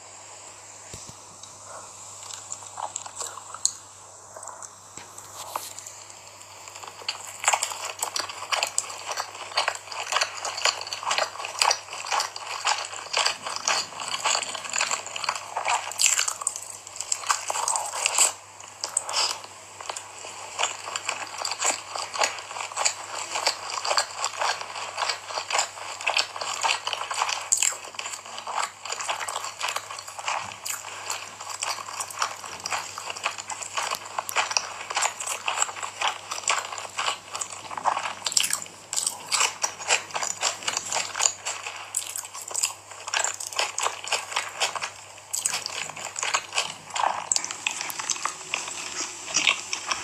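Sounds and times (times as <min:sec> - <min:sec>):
person chewing crunchy food: 0:00.9 - 0:50.0.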